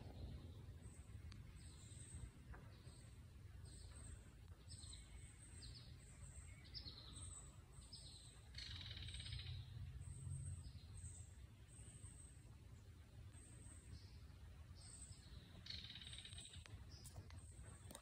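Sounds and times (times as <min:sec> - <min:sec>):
faint bird chirps: 0:00.0 - 0:18.0
low steady rumble: 0:00.0 - 0:18.0.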